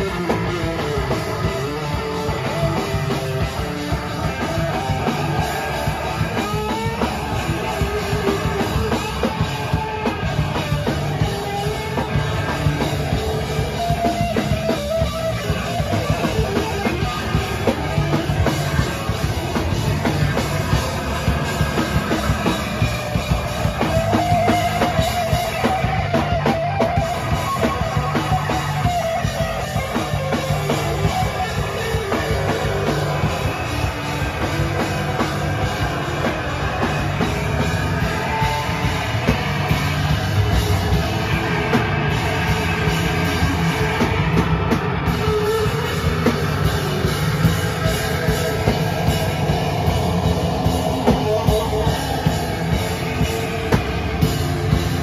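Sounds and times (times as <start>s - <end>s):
drum kit beat: 0.0s - 55.0s
electric guitar: 0.0s - 55.0s
rock band playing live: 0.0s - 55.0s.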